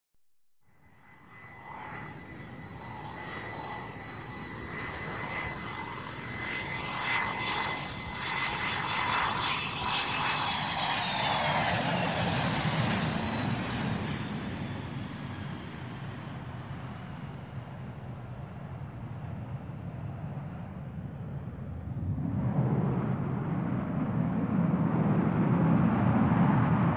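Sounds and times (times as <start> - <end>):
jet engine whine: 0.7 - 26.9.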